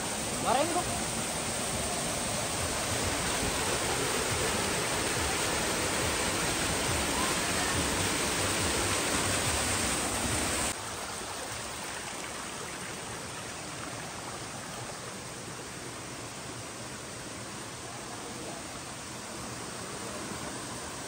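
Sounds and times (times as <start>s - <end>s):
stream running over rocks: 0.0s - 21.0s
waterfall rushing: 0.0s - 21.0s.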